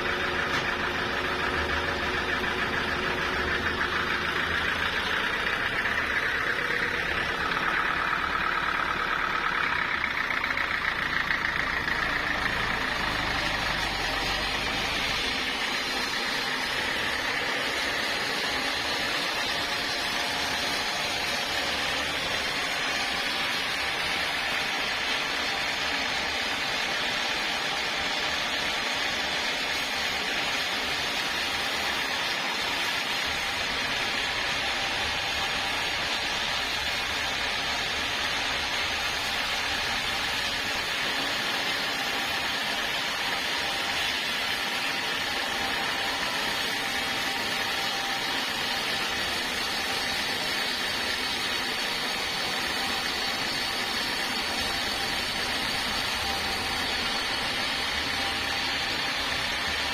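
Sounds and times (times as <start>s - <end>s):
saw whining through log: 0.0s - 59.9s
sawmill engine hum: 0.0s - 59.9s.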